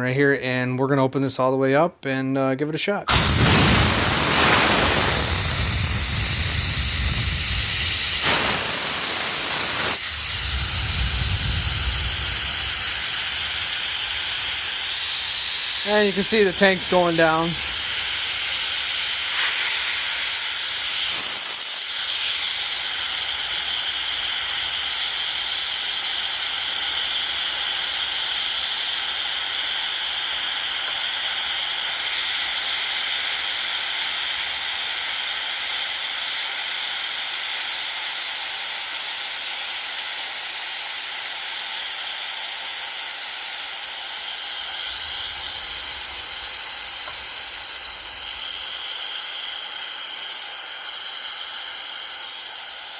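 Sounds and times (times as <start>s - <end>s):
compressed air hissing: 3.1s - 52.9s.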